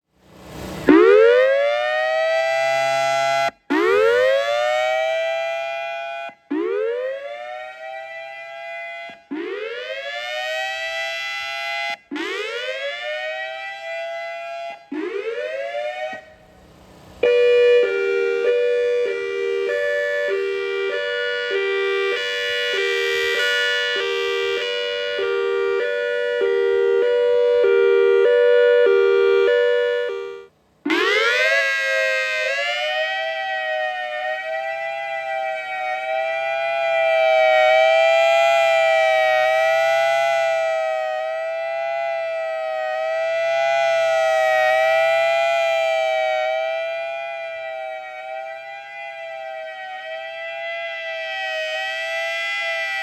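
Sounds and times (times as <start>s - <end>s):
siren hi-lo tone: 0.2s - 53.0s
siren whoop tone: 0.7s - 16.6s, 17.2s - 53.0s.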